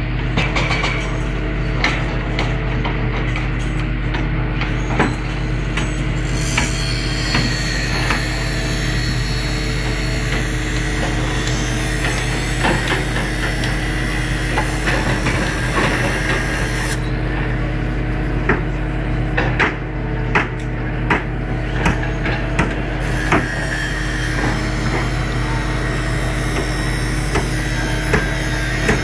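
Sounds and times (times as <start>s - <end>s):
machinery hum: 0.0s - 29.0s.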